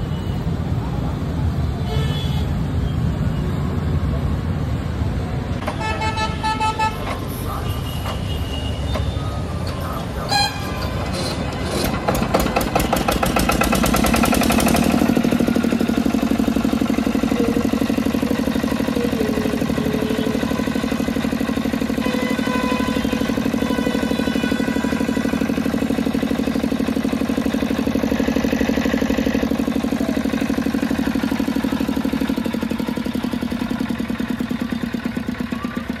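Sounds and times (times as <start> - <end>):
diesel engine starting and running: 2.5 - 36.0.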